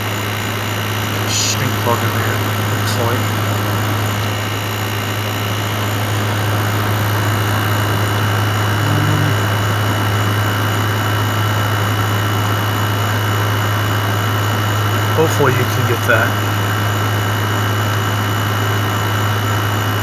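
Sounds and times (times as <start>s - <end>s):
air conditioner humming: 0.0s - 13.5s, 14.9s - 17.6s.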